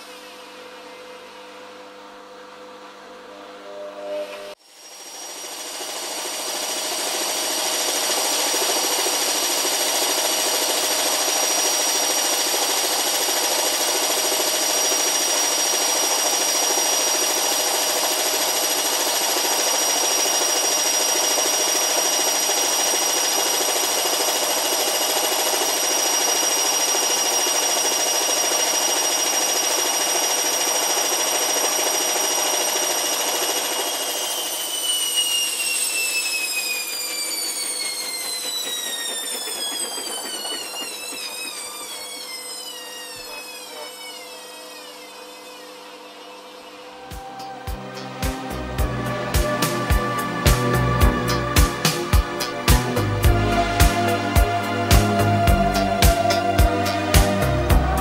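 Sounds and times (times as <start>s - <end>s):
washing machine spinning: 4.7s - 45.2s, 46.2s - 58.0s.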